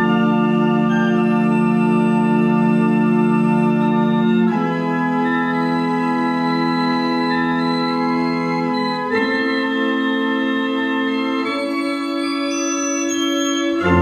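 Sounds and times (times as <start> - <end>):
pipe organ chords: 0.0 - 14.0.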